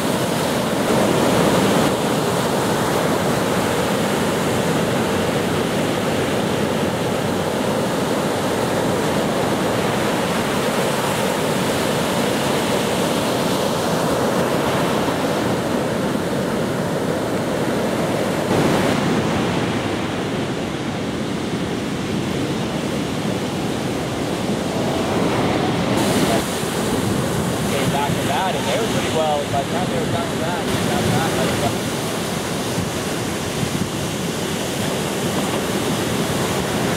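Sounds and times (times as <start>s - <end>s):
ocean surf breaking: 0.0s - 36.9s
wind: 0.0s - 36.9s.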